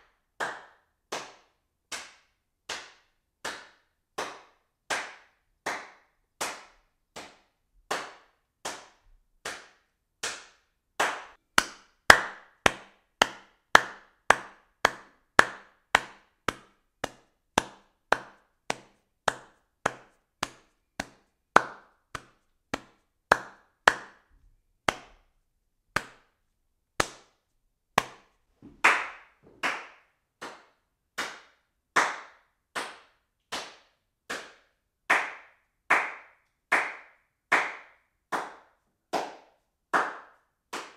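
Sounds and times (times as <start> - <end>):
hand claps: 0.0 - 26.4, 27.0 - 40.9.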